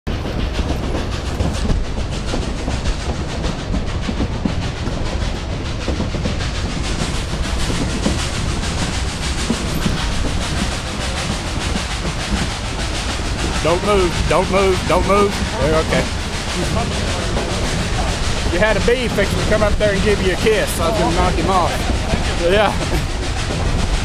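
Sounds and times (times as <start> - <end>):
train wheels clickety-clack: 0.1 - 24.0.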